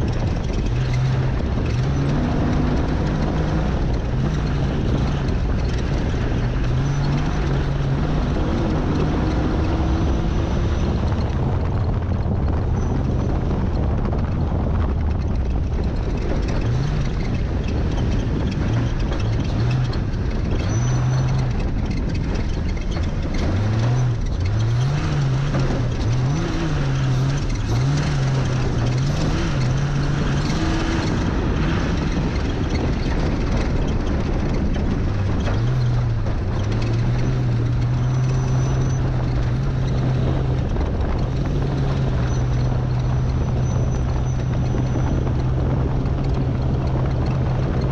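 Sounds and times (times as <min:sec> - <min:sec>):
truck engine revving: 0:00.0 - 0:47.9
wind and road noise: 0:00.0 - 0:47.9.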